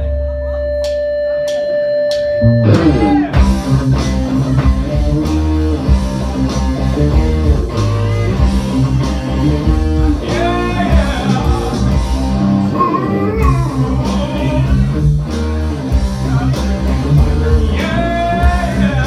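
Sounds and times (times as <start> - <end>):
steady drum beat: 0.0 - 19.0
bass guitar: 2.4 - 19.0
electric guitar: 2.4 - 19.0.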